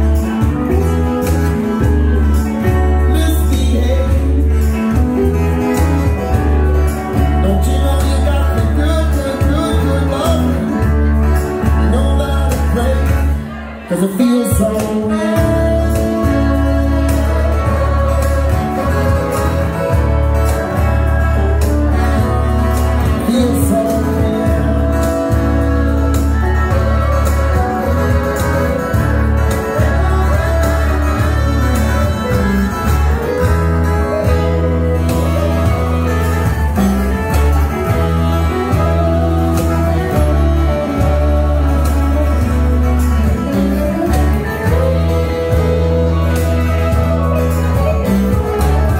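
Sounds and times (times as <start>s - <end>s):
live country band playing: 0.0s - 48.9s.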